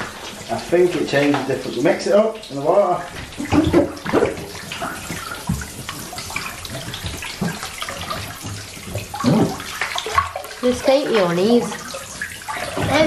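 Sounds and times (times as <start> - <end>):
bath water sloshing: 0.0 - 13.0.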